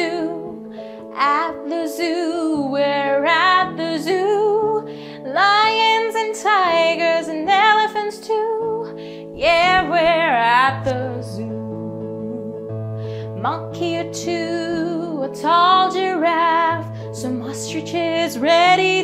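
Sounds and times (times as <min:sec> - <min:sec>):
woman singing: 0:00.0 - 0:12.7, 0:13.3 - 0:19.0.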